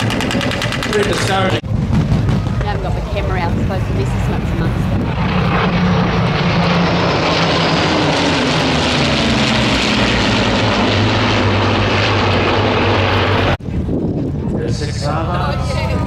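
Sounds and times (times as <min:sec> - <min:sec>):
aircraft engine flying past: 0:00.0 - 0:16.0.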